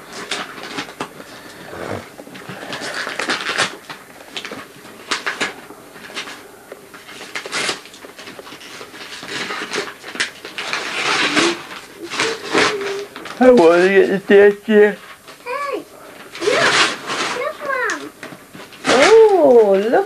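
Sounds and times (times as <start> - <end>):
wrapping paper crinkling and ripping: 0.0 - 1.6, 2.3 - 20.0.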